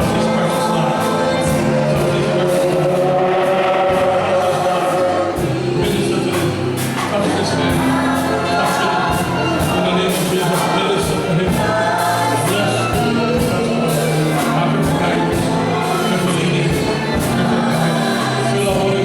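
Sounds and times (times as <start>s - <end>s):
choir singing gospel with band: 0.0s - 19.0s.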